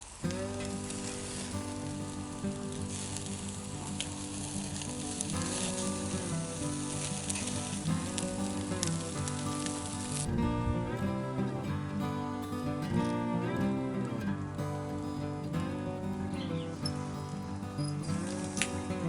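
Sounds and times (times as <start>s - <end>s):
background music: 0.3s - 19.0s.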